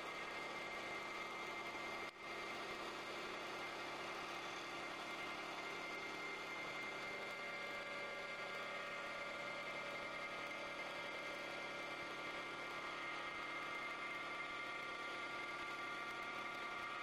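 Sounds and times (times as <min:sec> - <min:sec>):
cutter shaving wood: 0:00.0 - 0:17.0
lathe whining: 0:00.0 - 0:17.0.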